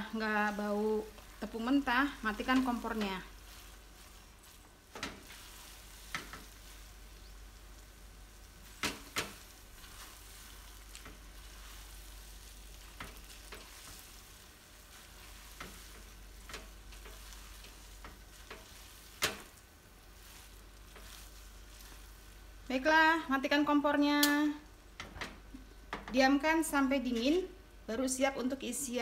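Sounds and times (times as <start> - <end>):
turner stirring food in a wok: 0.0 - 23.8
faint sizzle: 0.0 - 29.0.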